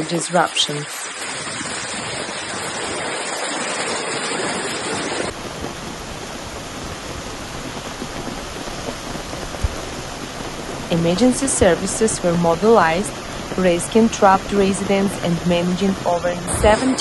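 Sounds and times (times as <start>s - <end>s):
floodwater rushing and splashing: 0.0s - 17.0s
rain: 0.0s - 17.0s.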